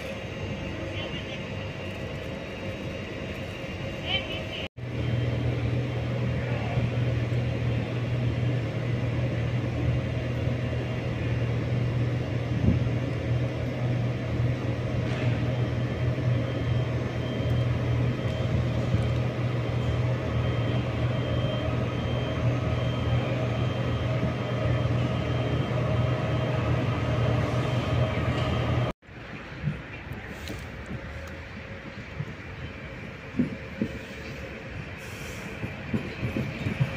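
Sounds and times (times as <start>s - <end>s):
train engine humming: 0.0s - 36.9s.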